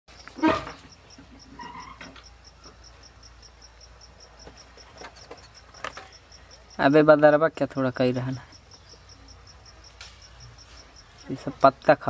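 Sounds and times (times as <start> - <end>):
faint outdoor background: 0.1 - 12.0
insect chirping: 0.1 - 12.0.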